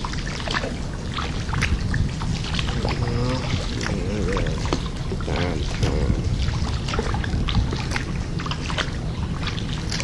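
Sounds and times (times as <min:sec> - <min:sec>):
steady low rumble: 0:00.0 - 0:10.0
water dripping off paddle: 0:00.0 - 0:10.0.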